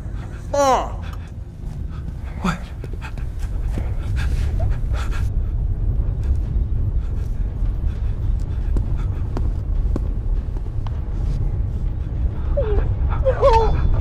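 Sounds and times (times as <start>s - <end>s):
faint panting breaths: 0.0s - 14.0s
low rumbling drone: 0.0s - 14.0s.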